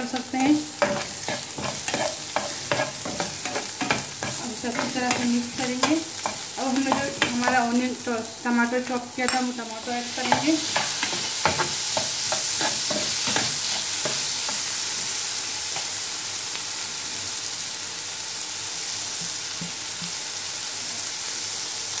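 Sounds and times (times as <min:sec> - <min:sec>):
onion and tomato sizzling in oil: 0:00.0 - 0:22.0.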